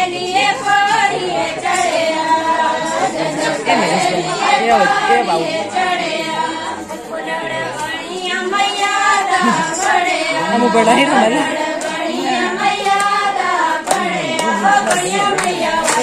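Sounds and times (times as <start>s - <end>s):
women singing folk song in chorus: 0.0s - 16.0s.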